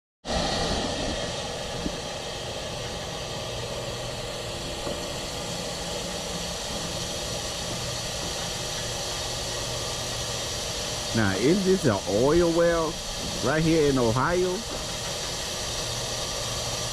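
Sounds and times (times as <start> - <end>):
engine running: 0.3 - 16.9.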